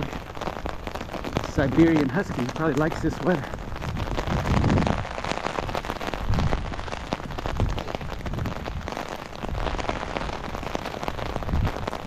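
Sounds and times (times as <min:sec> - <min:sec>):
rain pattering on an umbrella: 0:00.0 - 0:12.0.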